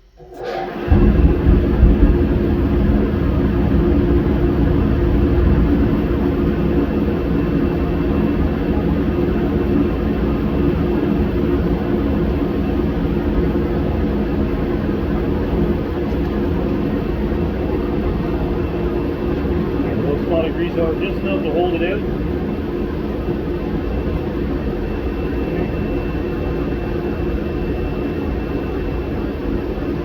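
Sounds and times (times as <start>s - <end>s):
heater droning: 0.0s - 30.0s.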